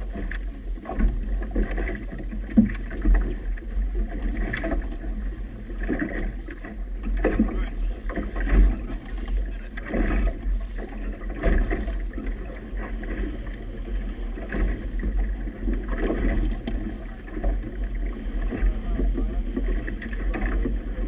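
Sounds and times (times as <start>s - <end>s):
water splashing against boat hull: 0.0s - 21.0s.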